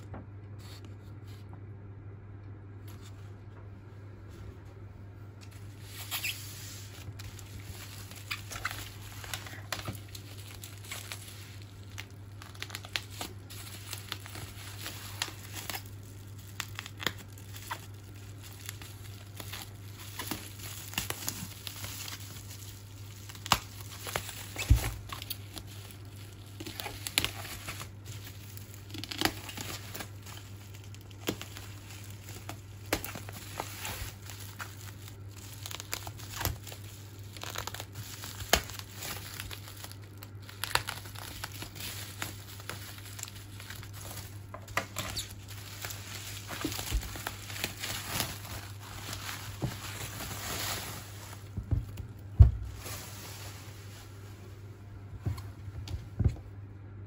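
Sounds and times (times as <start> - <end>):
steady low hum: 0.0 - 57.0
bubble wrap crinkling: 5.4 - 56.4.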